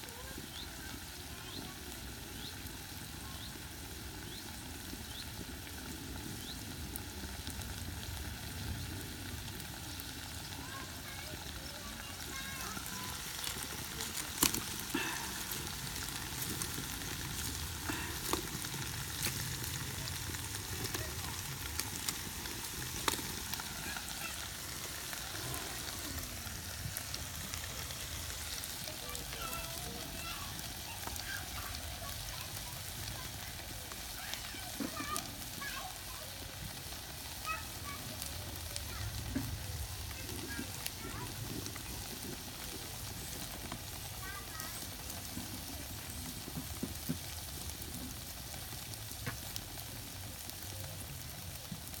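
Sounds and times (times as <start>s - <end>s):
beans sizzling in a pan: 0.0s - 52.0s
wood fire crackles: 0.0s - 52.0s.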